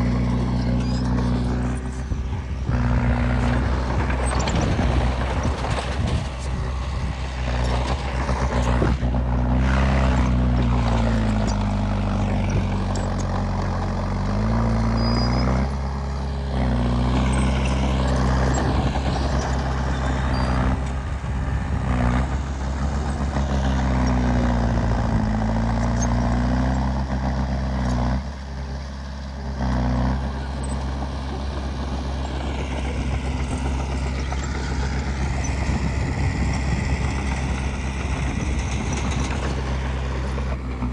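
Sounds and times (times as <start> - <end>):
heavy diesel engine under load: 0.0 - 40.9.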